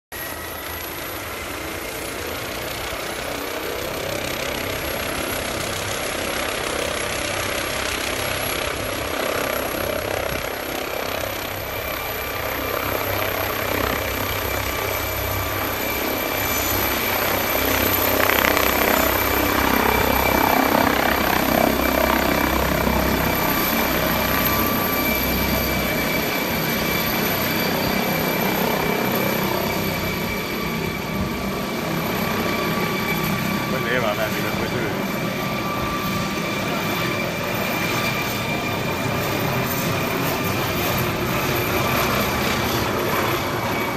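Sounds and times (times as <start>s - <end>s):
helicopter taking off: 0.1s - 43.9s.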